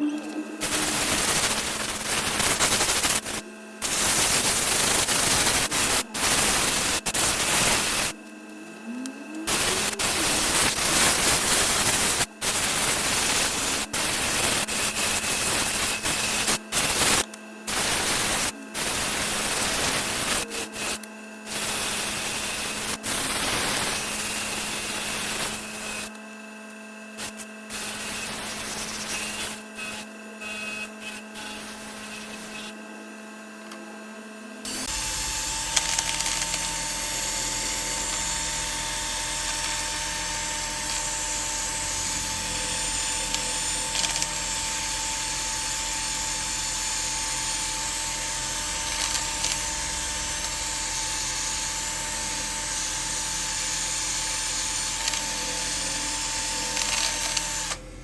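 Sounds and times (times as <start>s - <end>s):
power tool running against wood: 0.2s - 58.0s.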